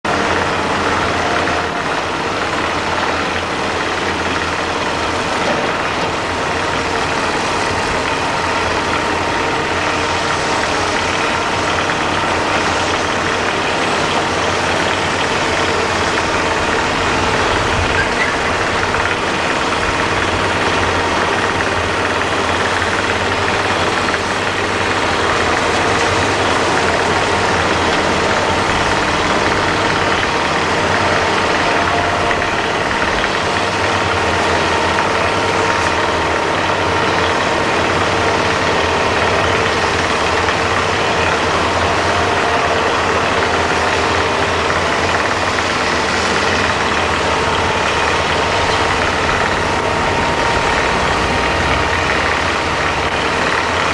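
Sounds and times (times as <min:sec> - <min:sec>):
diesel machinery engine drone: 0:00.0 - 0:53.9.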